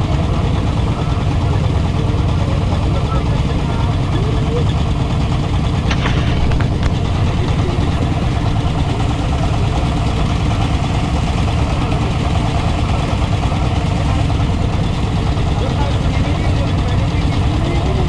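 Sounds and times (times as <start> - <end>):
boat engine running steadily: 0.0 - 18.0.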